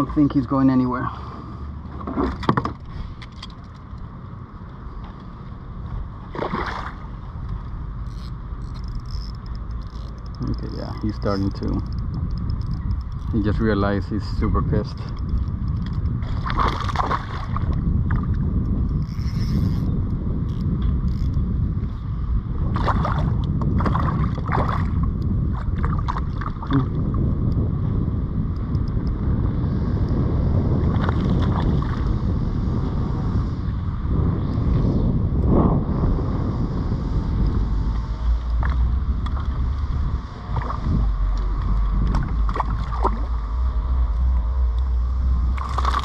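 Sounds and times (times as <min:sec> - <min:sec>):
wind on microphone: 0:00.0 - 0:46.0.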